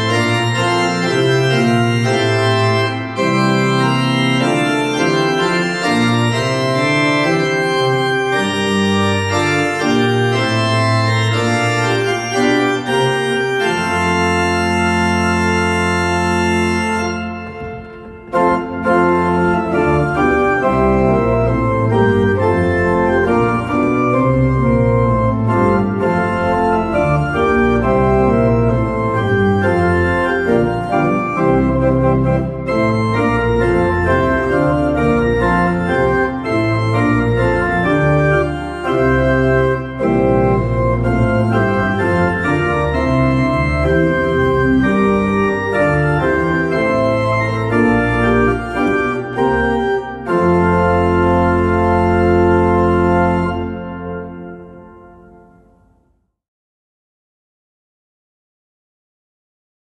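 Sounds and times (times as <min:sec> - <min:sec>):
pipe organ chords: 0:00.0 - 0:56.2.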